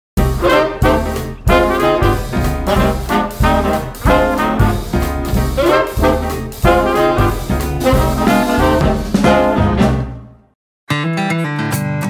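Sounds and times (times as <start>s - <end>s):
swing music with brass: 0.2s - 10.6s.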